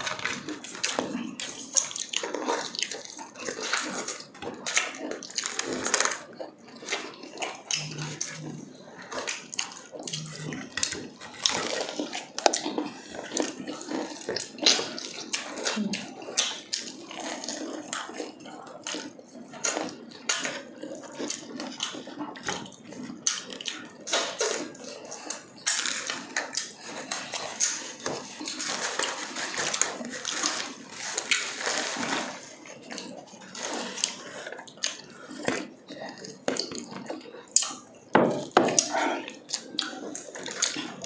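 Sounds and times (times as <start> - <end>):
crunching and chewing fried chicken: 0.0 - 41.0.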